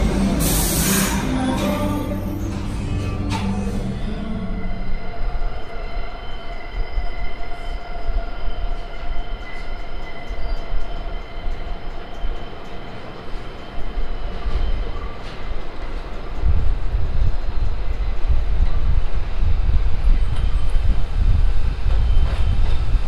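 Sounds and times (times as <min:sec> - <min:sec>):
high train whine: 0:00.0 - 0:23.0
subway train rumble: 0:00.0 - 0:23.0.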